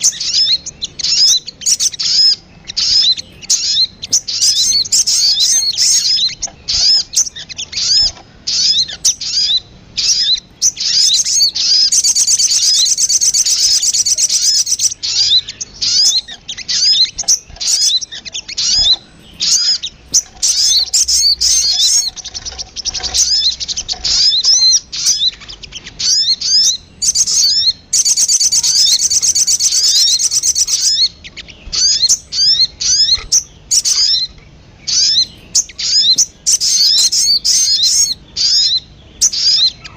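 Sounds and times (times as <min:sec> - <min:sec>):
recorded bird call chirps and trills: 0:00.0 - 0:39.9.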